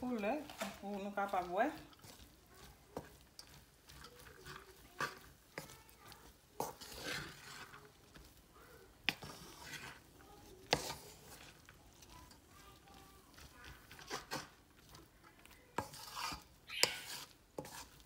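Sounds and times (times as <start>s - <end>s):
wooden spatula scraping metal pan: 0.0s - 18.0s.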